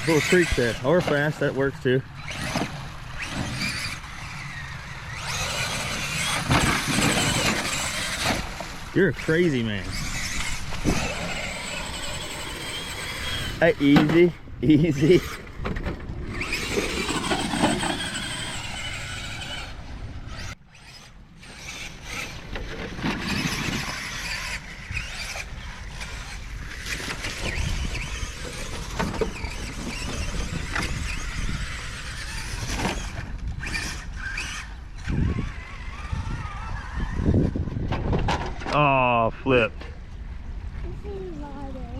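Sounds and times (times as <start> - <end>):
electric motor whining: 0.0 - 38.8.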